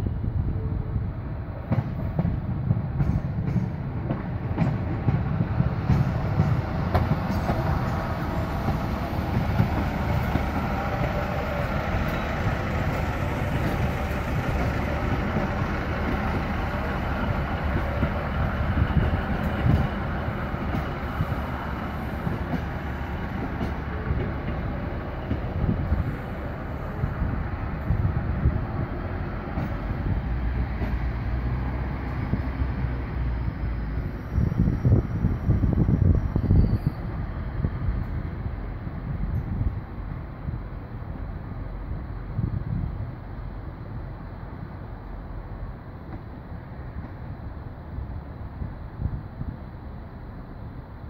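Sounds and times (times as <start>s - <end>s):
diesel train passing: 0.0s - 51.0s
train wheels rumbling on rails: 0.0s - 51.0s.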